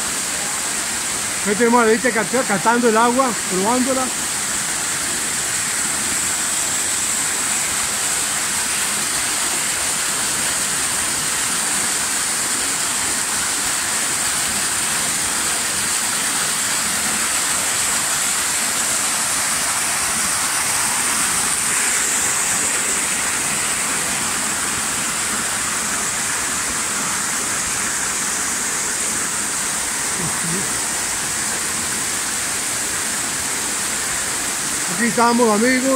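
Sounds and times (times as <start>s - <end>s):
waterfall splashing over rocks: 0.0s - 35.9s.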